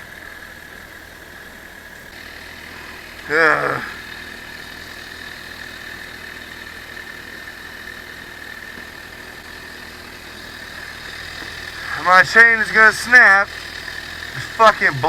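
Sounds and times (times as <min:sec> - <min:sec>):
motorcycle engine idling with whine: 0:00.0 - 0:15.0.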